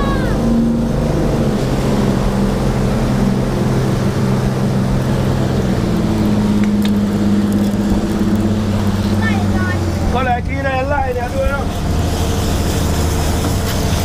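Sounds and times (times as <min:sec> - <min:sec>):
boat diesel engines running hard: 0:00.0 - 0:14.0
rushing wake: 0:00.0 - 0:14.0
wind: 0:00.0 - 0:14.0.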